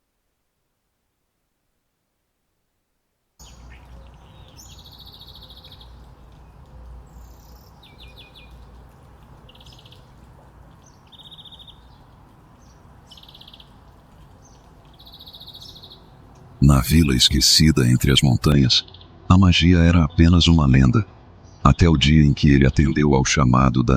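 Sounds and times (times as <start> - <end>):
birds chirping and trilling: 3.4 - 23.7
low outdoor rumble: 3.4 - 23.9.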